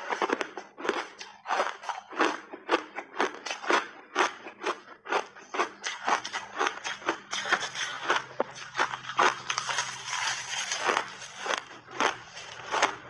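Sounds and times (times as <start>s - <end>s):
ice being chewed crunching: 0.0s - 13.0s.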